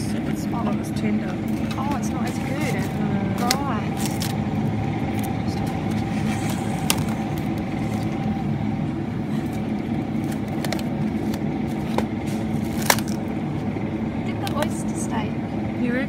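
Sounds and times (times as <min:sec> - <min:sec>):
refrigerated display case hum: 0:00.0 - 0:16.0.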